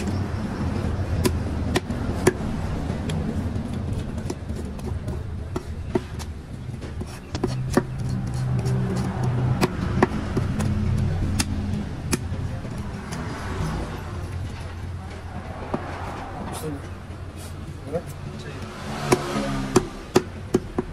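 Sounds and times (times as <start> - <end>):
sharp clicks and knocks: 0.0 - 17.2, 17.9 - 20.9.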